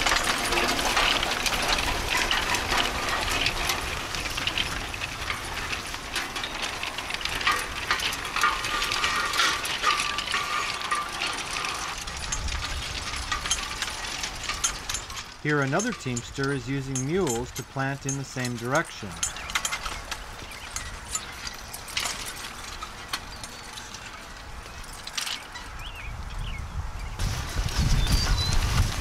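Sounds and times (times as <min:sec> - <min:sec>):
chains clanking and rattling: 0:00.0 - 0:25.9.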